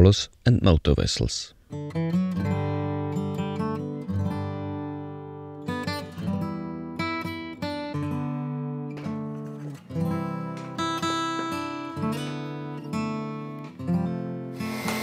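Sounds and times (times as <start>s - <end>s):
strummed acoustic guitar: 1.7s - 15.0s.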